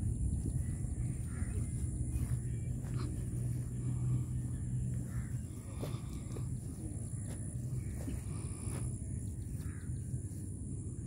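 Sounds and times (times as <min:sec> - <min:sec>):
faint bird calls: 0:00.0 - 0:11.0
wind rumbling on microphone: 0:00.0 - 0:11.0.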